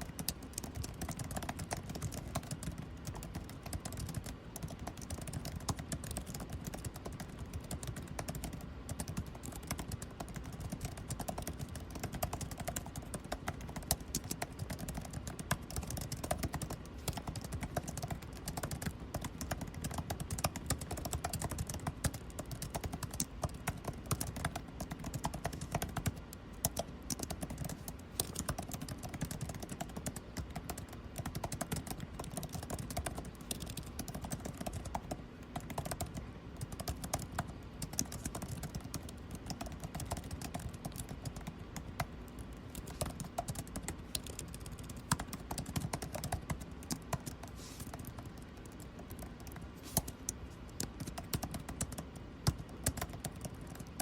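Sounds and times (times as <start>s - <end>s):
air conditioning hum: 0.0s - 54.0s
typing on computer keyboard: 0.0s - 54.0s.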